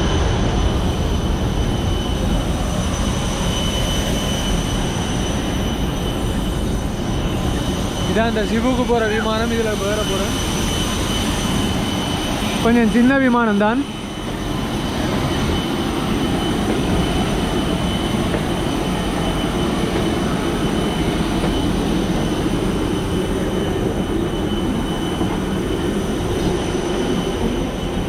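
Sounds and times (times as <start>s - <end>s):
airliner engine drone: 0.0s - 28.0s
thin high whine: 0.0s - 28.0s.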